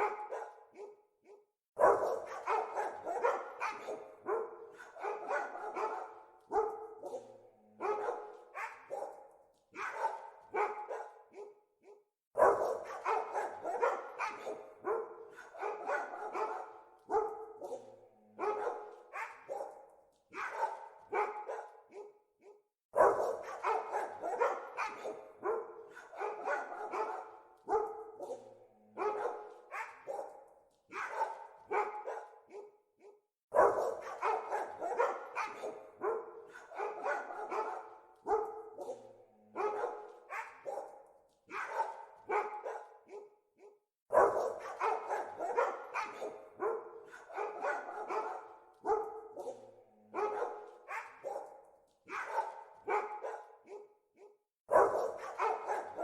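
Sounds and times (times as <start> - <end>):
dogs barking: 0.0 - 56.0.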